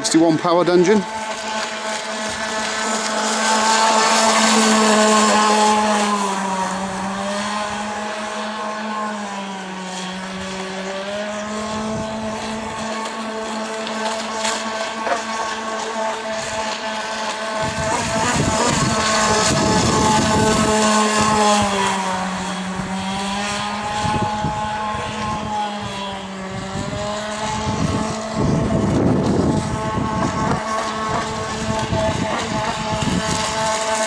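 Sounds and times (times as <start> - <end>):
model boat engine buzzing: 0.0 - 34.0.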